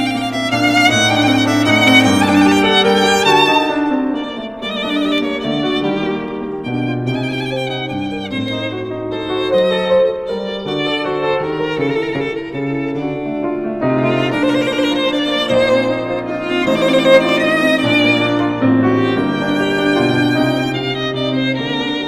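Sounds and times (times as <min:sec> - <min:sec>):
violin melody with vibrato: 0:00.0 - 0:22.0.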